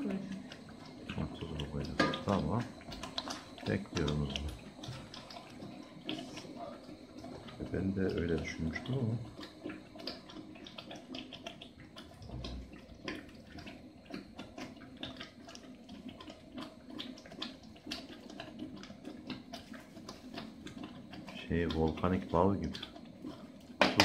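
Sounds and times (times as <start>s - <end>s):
thick paste boiling in pot: 0.0s - 24.0s.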